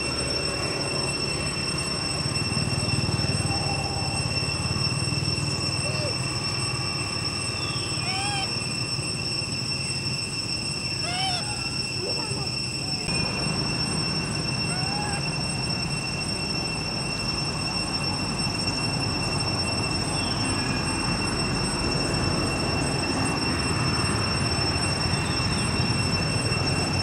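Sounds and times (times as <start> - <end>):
high-pitched whine: 0.0 - 27.0.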